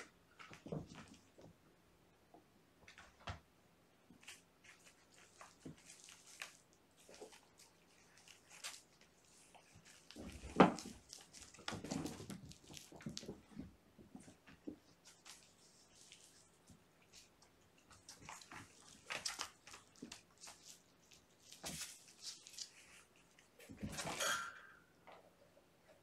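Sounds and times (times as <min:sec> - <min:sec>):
kittens' paws thumping and rustling: 0:00.4 - 0:01.6, 0:04.1 - 0:24.2.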